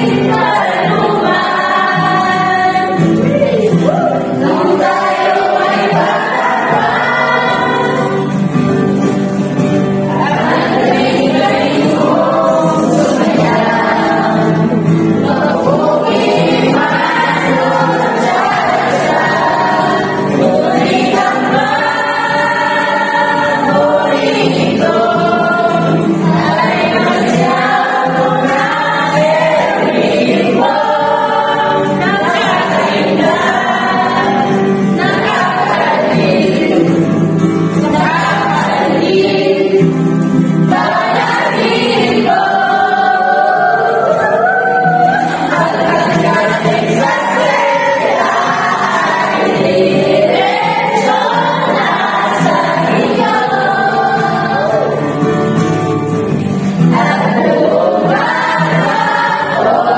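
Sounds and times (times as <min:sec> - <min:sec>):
acoustic guitar: 0:00.0 - 0:59.9
small choir singing: 0:00.0 - 0:59.9.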